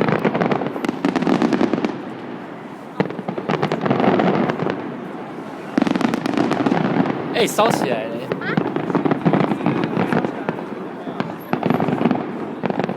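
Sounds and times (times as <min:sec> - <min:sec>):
fireworks crackling bursts: 0:00.0 - 0:02.4, 0:03.0 - 0:12.9.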